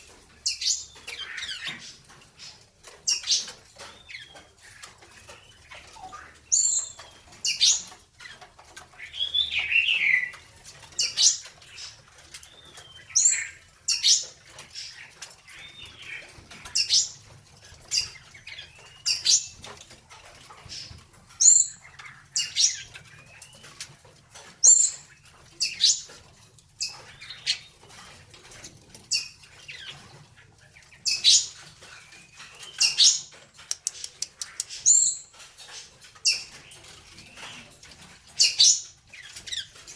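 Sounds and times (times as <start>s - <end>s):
small clicks in cage: 0.0s - 39.9s
songbirds chirping: 0.0s - 39.9s.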